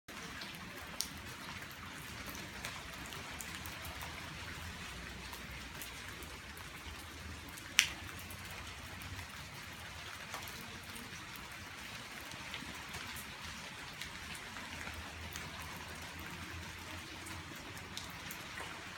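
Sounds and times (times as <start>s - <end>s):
steady rain falling: 0.1s - 18.9s.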